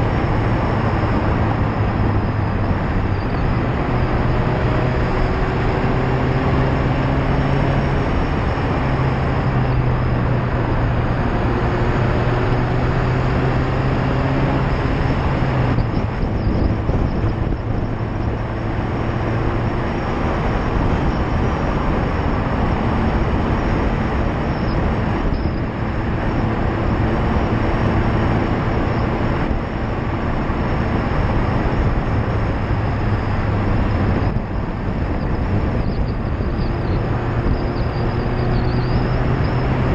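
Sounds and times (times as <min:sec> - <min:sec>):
car engine and exhaust: 0:00.0 - 0:39.9
tyre and road noise: 0:00.0 - 0:39.9.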